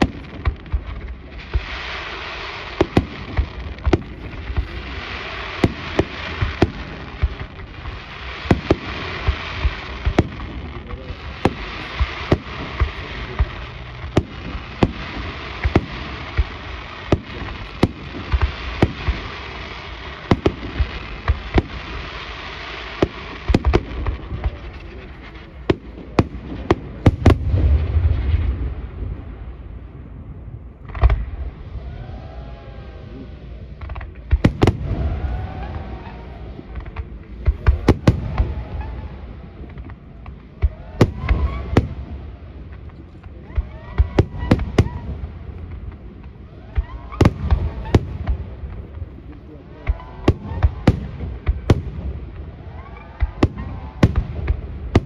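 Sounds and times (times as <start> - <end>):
crackling hiss of burning stars: 0.0 - 55.0.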